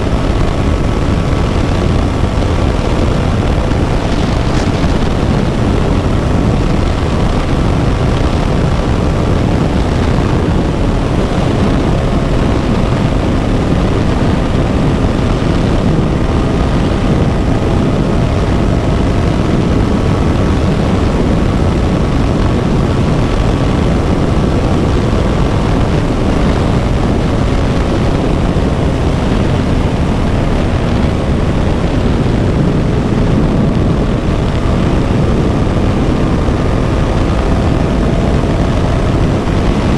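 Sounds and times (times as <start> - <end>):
motorcycle engine cruising: 0.0 - 39.9
riding wind noise: 0.0 - 39.9.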